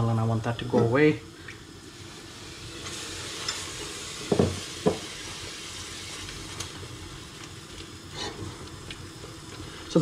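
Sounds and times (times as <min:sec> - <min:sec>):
paste sizzling in oil: 0:00.9 - 0:10.0.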